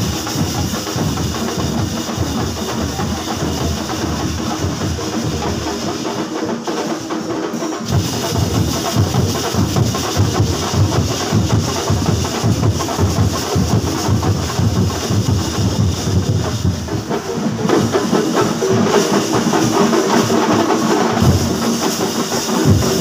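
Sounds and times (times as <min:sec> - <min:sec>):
temple drum ensemble: 0:00.0 - 0:23.0.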